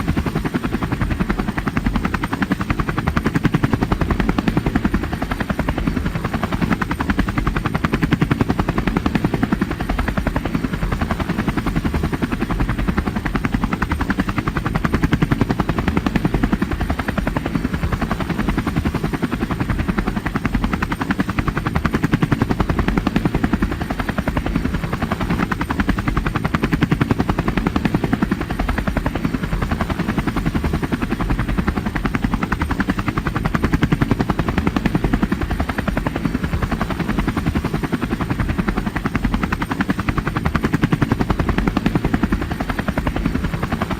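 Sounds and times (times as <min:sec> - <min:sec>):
helicopter rotor blades chopping: 0:00.0 - 0:43.9.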